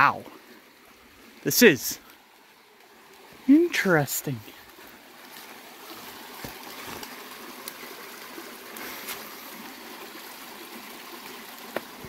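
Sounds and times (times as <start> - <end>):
creek trickling over rocks: 0.0 - 12.0.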